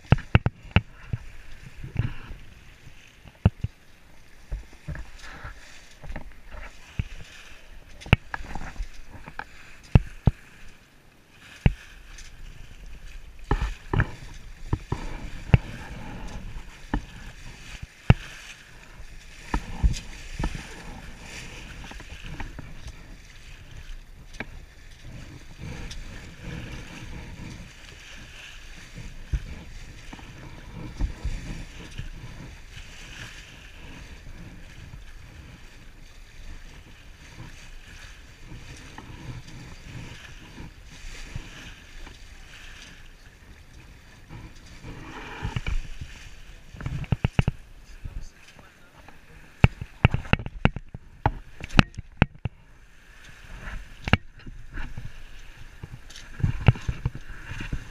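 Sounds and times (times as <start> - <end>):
water rushing along hull: 0.0 - 57.9
wind buffeting microphone: 11.5 - 57.9.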